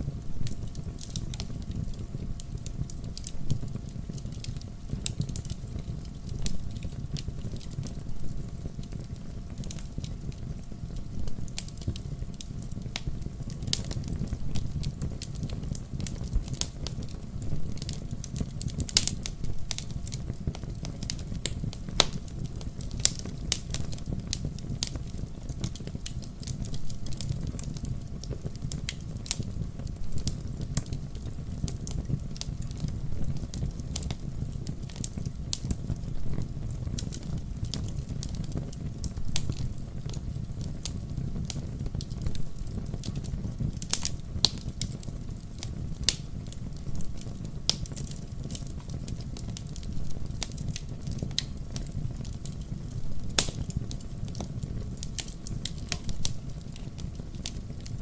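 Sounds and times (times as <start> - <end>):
burning logs crackling and popping: 0.0 - 58.0
fire flames rumbling: 0.0 - 58.0.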